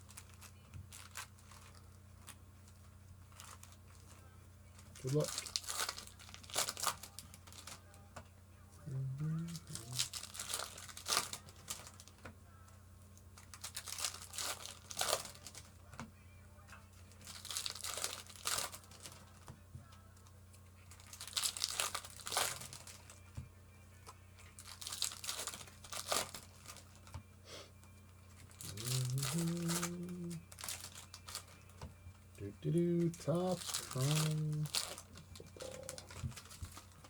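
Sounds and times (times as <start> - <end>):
foil wrappers crinkling and tearing: 0.0 - 8.1, 8.9 - 12.3, 13.2 - 16.1, 16.7 - 37.0
faint low hum: 0.0 - 37.0.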